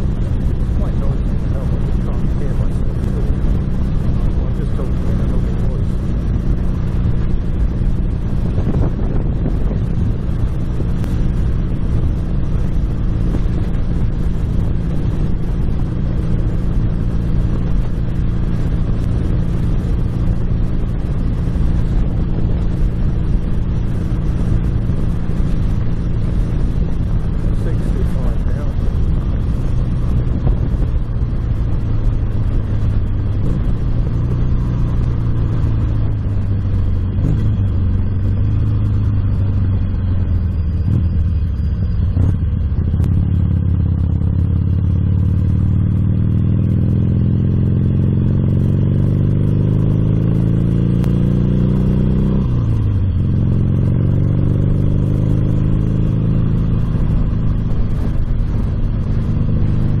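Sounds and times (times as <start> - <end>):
motorcycle engine: 0.0 - 60.0.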